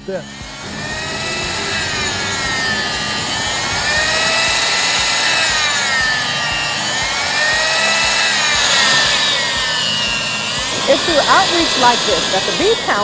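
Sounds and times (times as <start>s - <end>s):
electric meat slicer whining: 0.0s - 13.0s.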